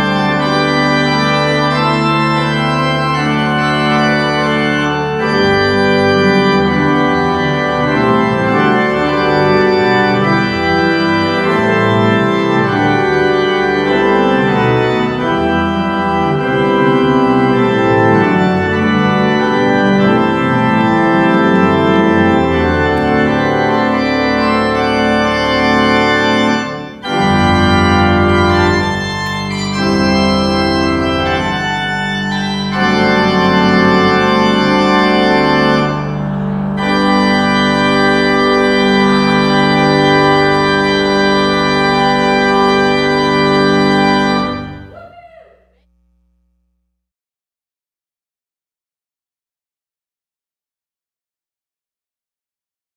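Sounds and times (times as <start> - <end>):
organ playing held chords: 0.0 - 46.6.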